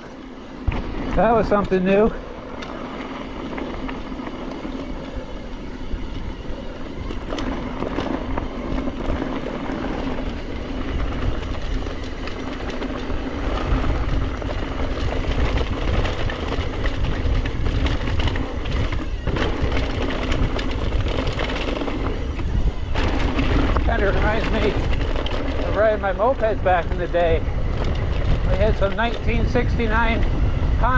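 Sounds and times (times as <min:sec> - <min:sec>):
tyres on dirt: 0:00.0 - 0:30.5
bike frame and chain rattling: 0:00.0 - 0:30.9
wind rumbling on microphone: 0:00.0 - 0:30.9.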